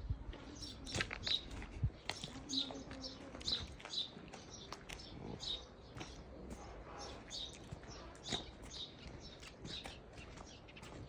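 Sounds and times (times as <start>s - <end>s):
footsteps on stony path: 0.0s - 11.0s
small birds chirping: 0.1s - 11.0s.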